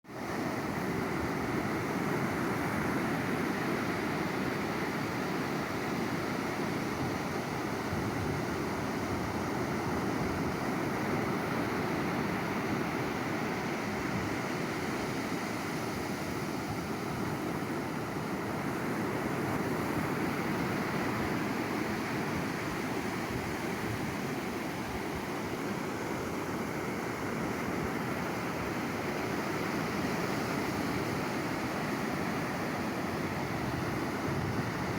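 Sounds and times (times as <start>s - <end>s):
sea waves surging onto shore: 0.1s - 34.9s.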